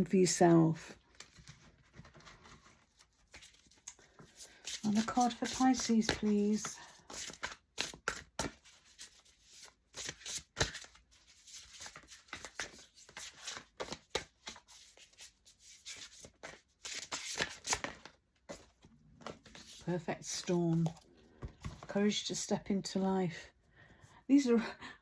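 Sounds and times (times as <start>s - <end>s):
cards being shuffled: 1.1s - 22.0s.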